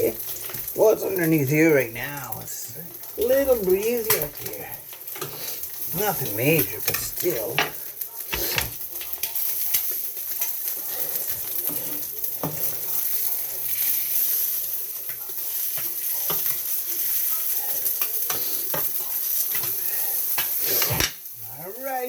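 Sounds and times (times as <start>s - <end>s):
food sizzling in frying pan: 0.0s - 22.0s.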